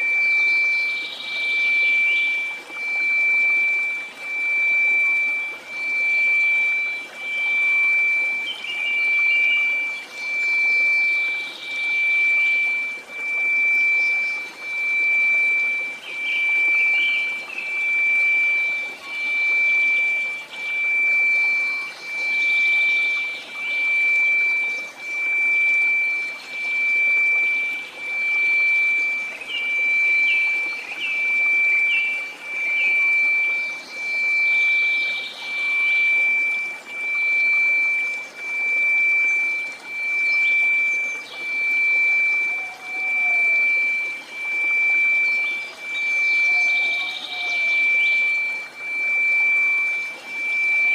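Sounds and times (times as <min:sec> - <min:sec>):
chirps and trickling sounds: 0:00.0 - 0:50.9
pulsing sine tone: 0:00.0 - 0:50.9.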